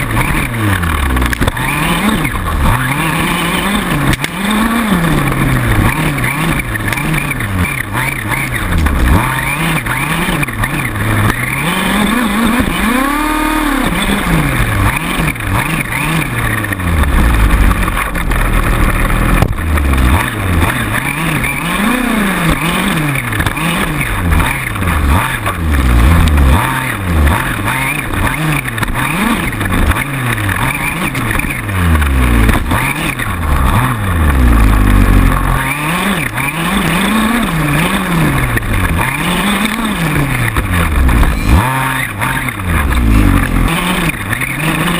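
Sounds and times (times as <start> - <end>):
other rc car engines: 0.0 - 44.9
small two-stroke engine revving: 0.0 - 44.9.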